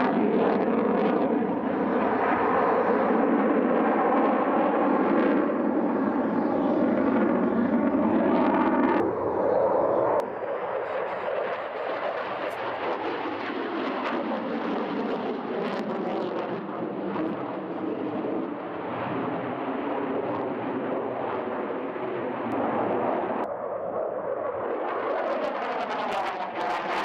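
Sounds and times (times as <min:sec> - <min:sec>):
jet engines roaring in flight: 0:00.0 - 0:27.0.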